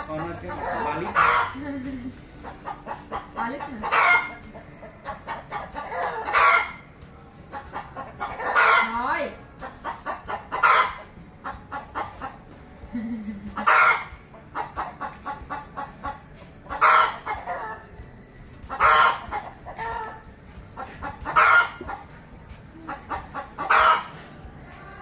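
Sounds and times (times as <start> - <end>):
chicken cackling: 0.0 - 12.4, 13.2 - 18.0, 18.7 - 25.0.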